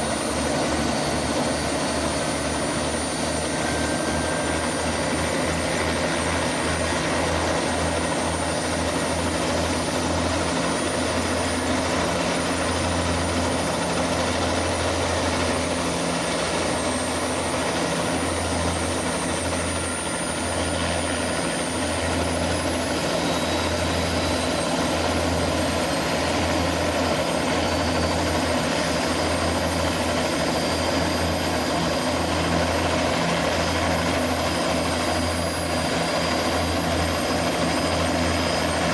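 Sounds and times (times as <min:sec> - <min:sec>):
helicopter rotor throbbing: 0:00.0 - 0:38.9
high turbine whine: 0:00.0 - 0:38.9.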